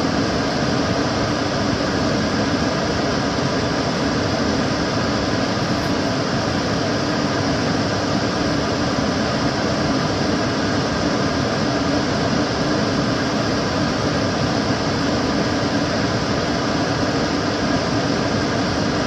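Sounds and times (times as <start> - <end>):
extractor fan humming: 0.0 - 19.0.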